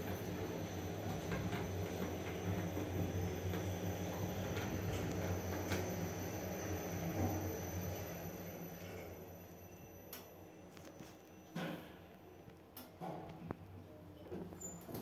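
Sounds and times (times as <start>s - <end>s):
elevator hum and rumble: 0.0s - 12.4s.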